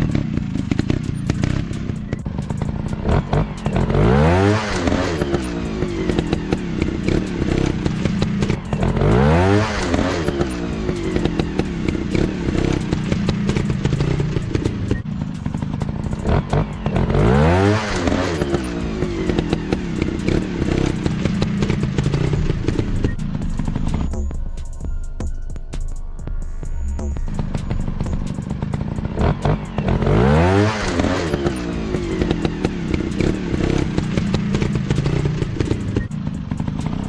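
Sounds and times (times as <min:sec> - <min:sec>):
dirt bike engine revving: 0:00.0 - 0:24.4, 0:26.9 - 0:37.0
sharp clicks and clatter: 0:00.0 - 0:24.8, 0:27.0 - 0:37.0.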